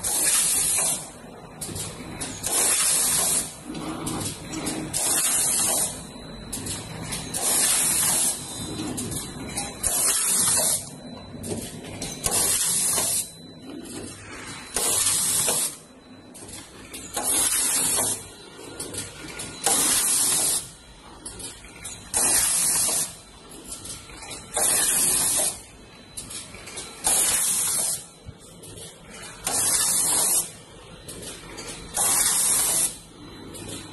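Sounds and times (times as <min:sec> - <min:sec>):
packing machine running: 0:00.0 - 0:33.9.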